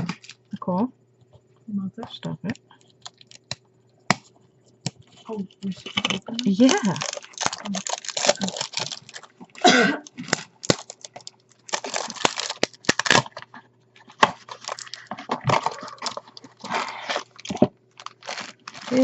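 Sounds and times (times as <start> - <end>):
packaging crinkling and tearing: 0.0 - 0.5, 2.5 - 19.0.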